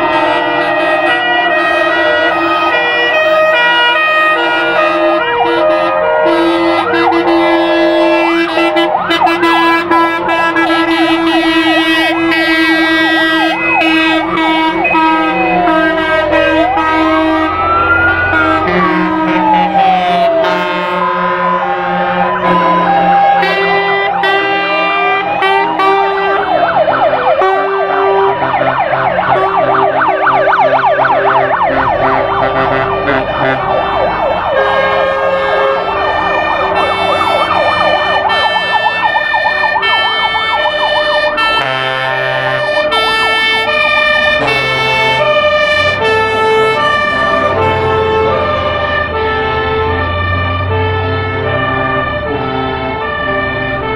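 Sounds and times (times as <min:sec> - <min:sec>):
air horn blasts: 0:00.0 - 0:30.0, 0:30.6 - 0:39.1, 0:41.4 - 0:43.8, 0:44.4 - 0:52.9
fire engine sirens wailing: 0:00.0 - 0:53.9.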